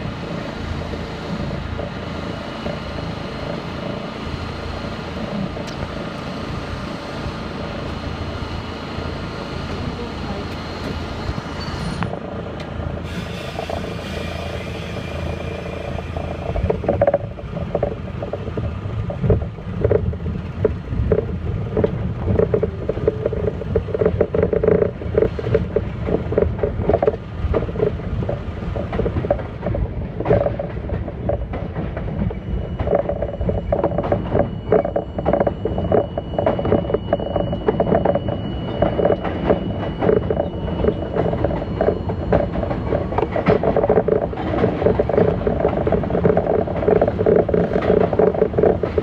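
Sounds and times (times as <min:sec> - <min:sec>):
subway train wheels rumbling: 0:00.0 - 0:49.0
wheels clicking over rail joints: 0:07.4 - 0:49.0.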